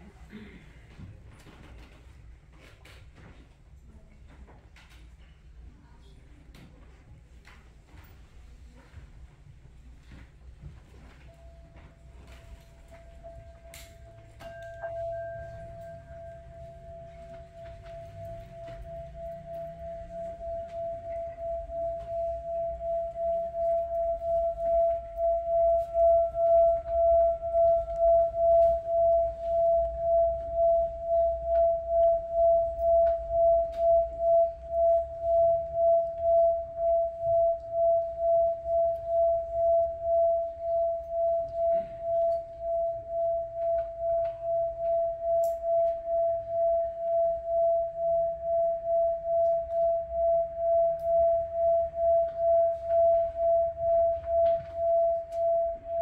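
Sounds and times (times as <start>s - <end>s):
sustained wobbling ringing tone: 10.6s - 56.0s.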